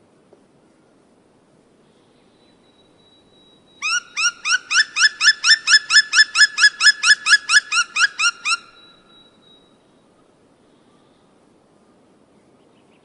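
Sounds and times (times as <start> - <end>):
faint steady high whine: 0.0 - 13.0.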